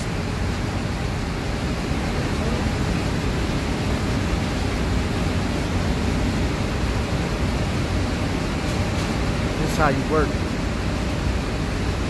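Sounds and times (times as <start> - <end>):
ventilation rushing noise: 0.0 - 12.0.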